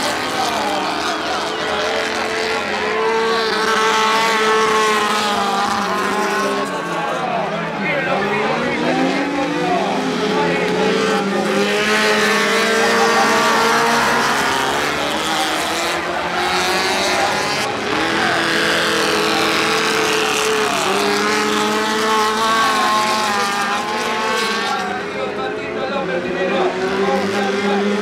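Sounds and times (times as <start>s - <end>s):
race car engines revving past: 0.0s - 28.0s.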